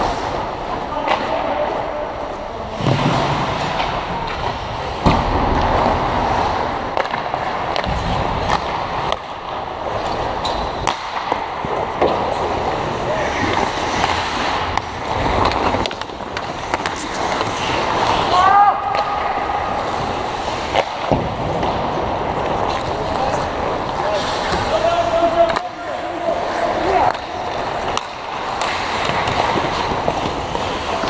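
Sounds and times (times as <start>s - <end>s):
knocks of sticks and puck: 0.0s - 31.0s
players' voices echoing: 0.0s - 31.0s
skate blades scraping ice: 0.0s - 31.0s.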